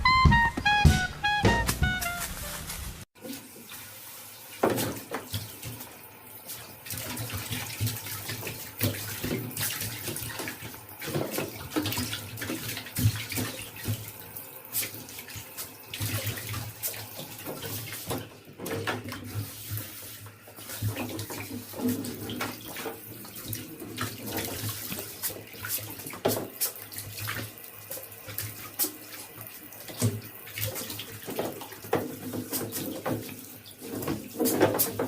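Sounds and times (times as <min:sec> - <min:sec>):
water running and splashing: 0:02.8 - 0:35.0.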